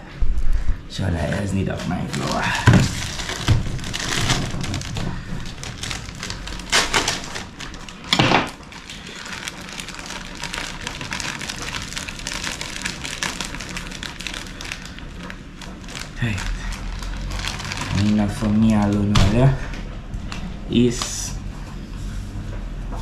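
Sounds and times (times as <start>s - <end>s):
plastic bag crinkling: 1.2s - 21.4s.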